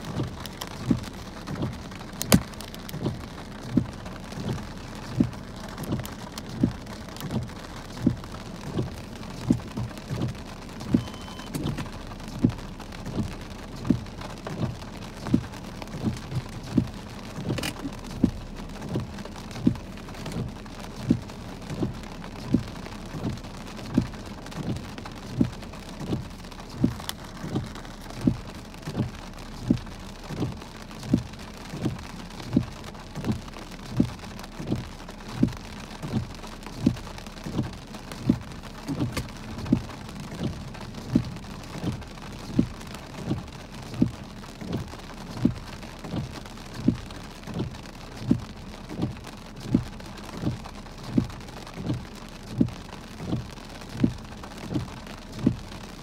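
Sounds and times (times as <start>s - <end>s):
regular low thump: 0.0s - 55.9s
heavy rain on a car: 0.0s - 56.0s.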